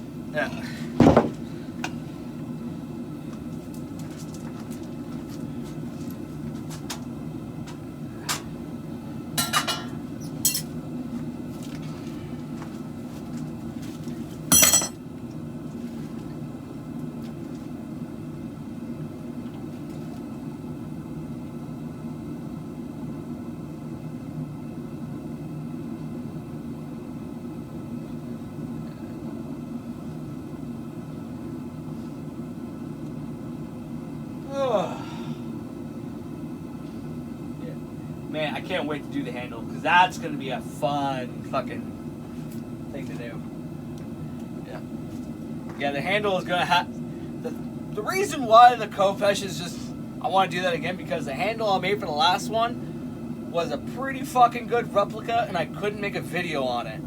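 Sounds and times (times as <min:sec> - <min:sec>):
forge burner roaring: 0:00.0 - 0:57.0.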